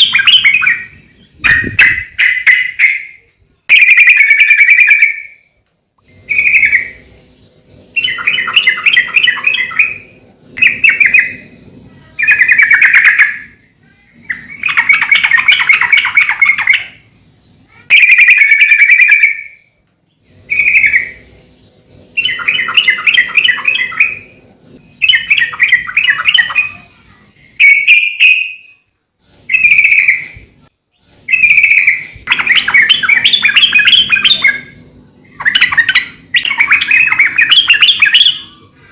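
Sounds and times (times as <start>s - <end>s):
bird singing chattering phrases: 0.0s - 5.4s, 6.1s - 28.8s, 29.5s - 38.9s.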